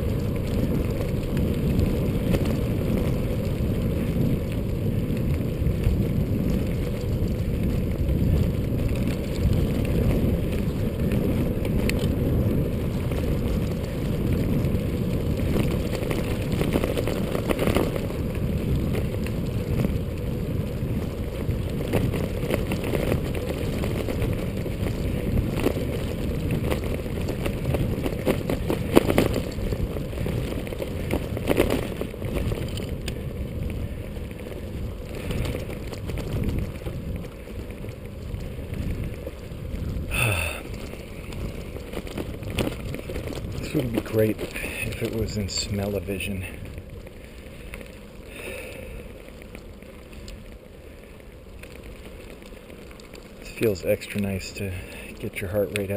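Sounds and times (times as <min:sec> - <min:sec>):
tyres rolling on asphalt: 0:00.0 - 0:55.9
wind rushing over microphone: 0:00.0 - 0:55.9.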